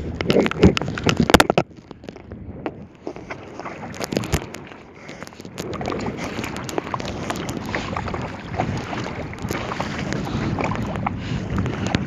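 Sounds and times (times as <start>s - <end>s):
water splashing against kayak: 0.0s - 12.0s
wind buffeting microphone: 0.0s - 12.0s.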